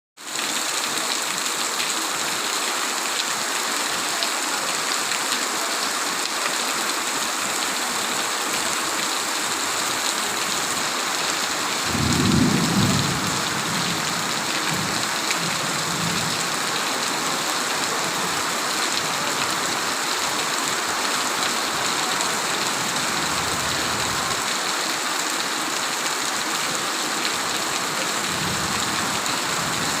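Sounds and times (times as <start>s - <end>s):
rain falling: 0.2s - 30.0s.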